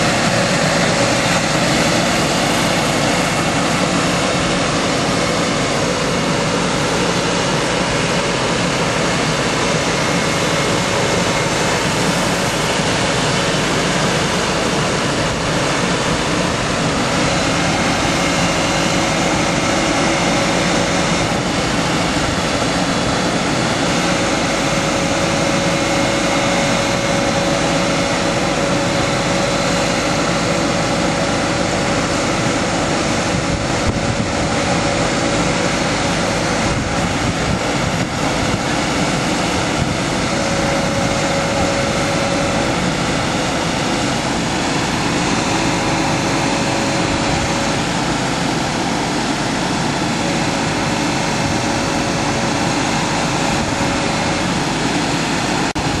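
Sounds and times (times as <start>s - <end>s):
sprayer mechanical noise: 0.0s - 56.0s.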